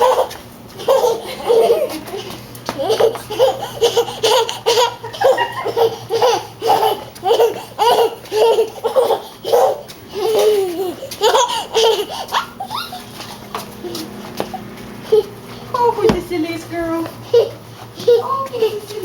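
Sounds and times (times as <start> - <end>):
baby laughing: 0.0 - 15.4, 17.2 - 19.0.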